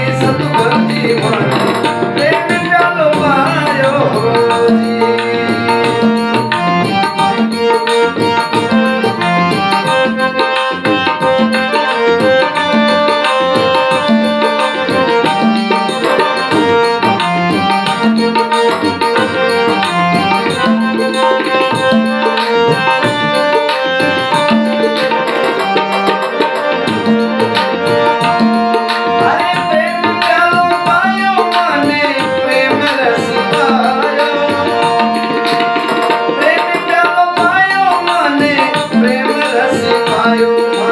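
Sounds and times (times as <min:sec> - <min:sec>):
held melodic notes: 0:00.0 - 0:40.9
tabla drumming: 0:00.0 - 0:40.9.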